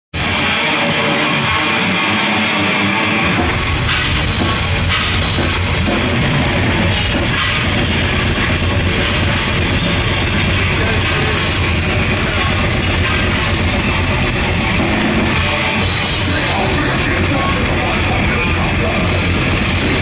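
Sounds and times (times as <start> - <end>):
distorted electric guitars: 0.1 - 20.0
drum kit: 0.1 - 20.0
heavy bass and kick drum: 3.0 - 20.0.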